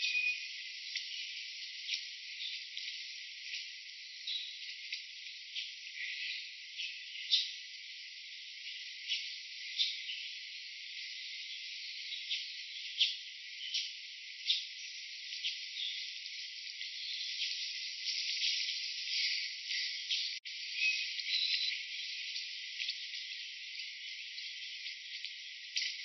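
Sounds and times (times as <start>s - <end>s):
high insect chorus: 0.0s - 26.0s.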